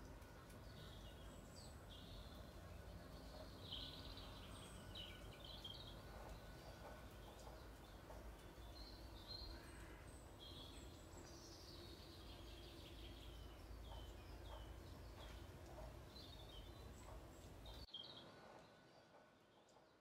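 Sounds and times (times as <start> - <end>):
wild birds singing: 0.0 - 20.0.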